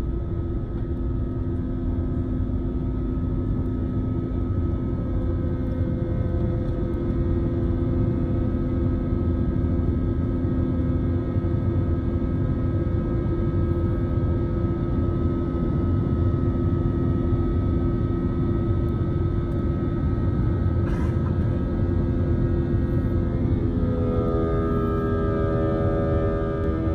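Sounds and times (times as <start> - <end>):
jet engines rumbling and whining: 0.0 - 26.9.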